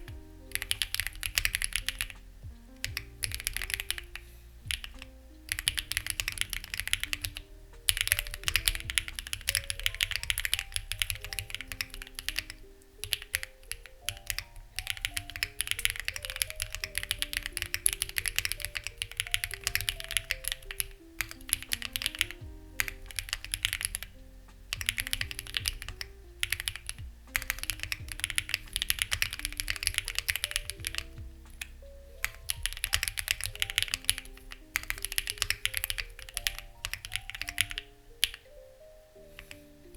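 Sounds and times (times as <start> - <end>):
mechanical keyboard typing: 0.0 - 2.2, 2.8 - 38.5
soft background music: 0.0 - 39.9.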